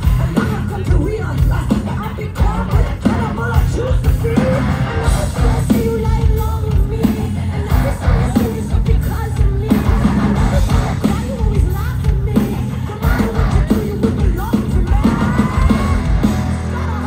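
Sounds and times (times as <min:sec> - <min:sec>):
distorted guitars and bass: 0:00.0 - 0:17.0
drums on a steady beat: 0:00.0 - 0:17.0
person singing: 0:00.0 - 0:17.0.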